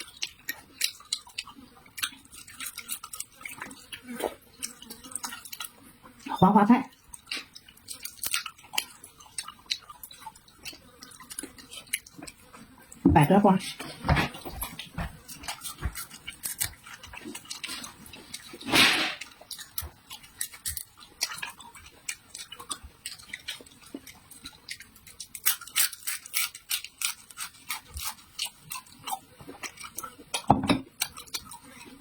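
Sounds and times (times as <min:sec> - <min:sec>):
person chewing crisp food: 0:00.0 - 0:06.3, 0:06.9 - 0:13.0, 0:13.6 - 0:32.0.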